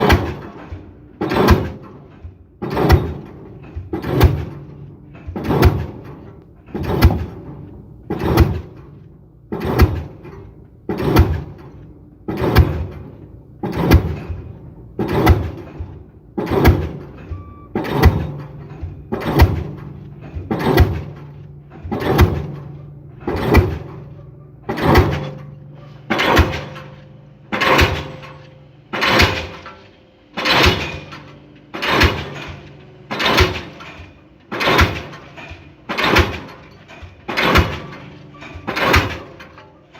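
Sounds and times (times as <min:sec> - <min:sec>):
pile driver engine humming: 0:00.0 - 0:39.9
pile driver hammer striking: 0:00.0 - 0:39.9.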